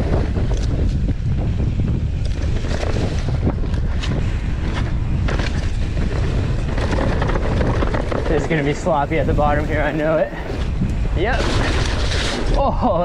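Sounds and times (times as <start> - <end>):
bike clicks and rattles: 0.0 - 13.0
wind rushing over microphone: 0.0 - 13.0.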